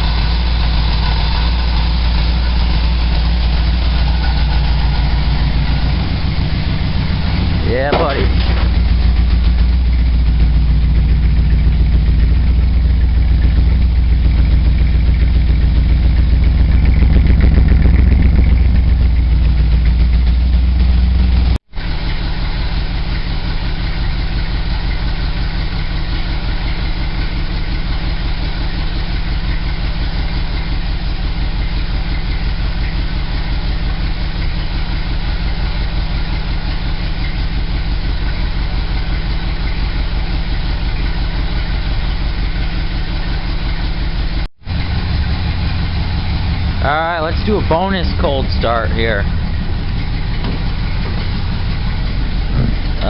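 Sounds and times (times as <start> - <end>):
go-kart engine idling: 0.0 - 53.0.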